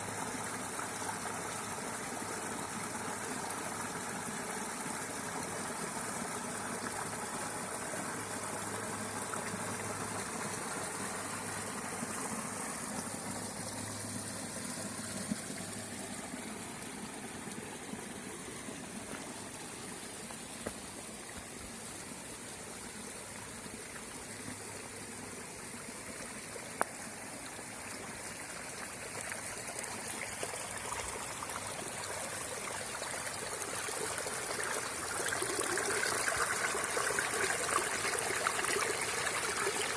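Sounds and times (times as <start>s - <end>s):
creek flowing over stones: 0.0s - 39.9s.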